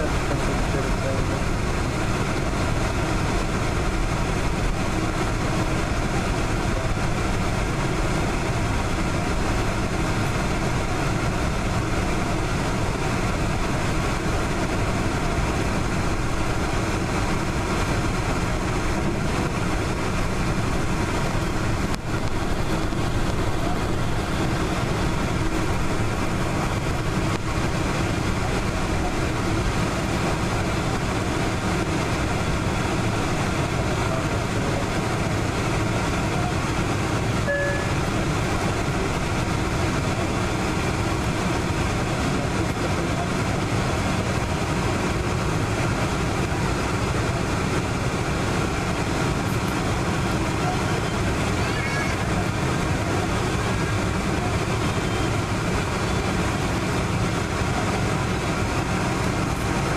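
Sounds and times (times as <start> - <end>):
jet engines heard in cabin: 0.0 - 59.9.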